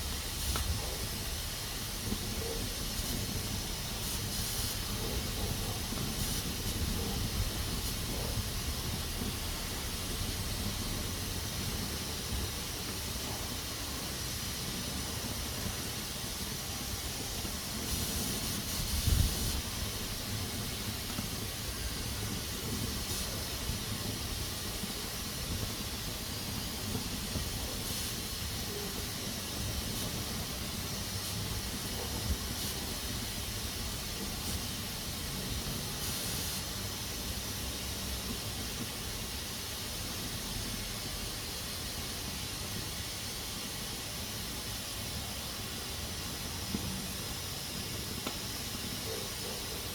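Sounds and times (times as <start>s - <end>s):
pressure cooker hissing steam: 0.0s - 49.9s.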